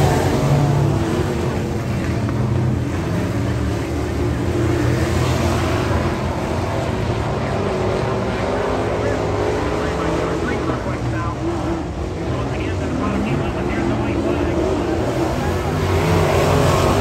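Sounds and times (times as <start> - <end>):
race truck engines droning: 0.0 - 17.0.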